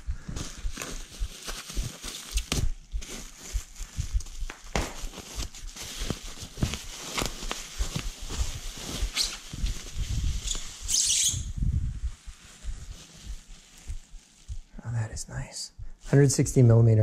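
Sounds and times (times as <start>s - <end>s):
bubble wrap crinkling: 0.0s - 14.8s.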